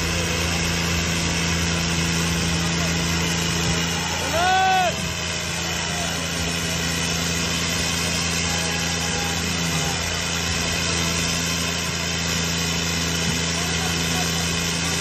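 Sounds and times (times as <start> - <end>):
tractor diesel engines running hard: 0.0 - 15.0.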